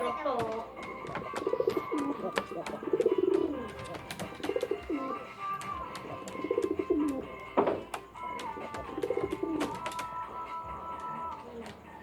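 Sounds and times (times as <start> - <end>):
pigeon cooing: 0.8 - 7.5, 8.2 - 12.0.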